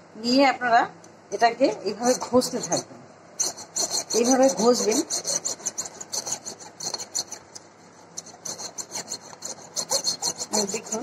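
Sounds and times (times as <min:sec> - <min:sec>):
knife blade scraping on ceramic: 0:01.7 - 0:11.0.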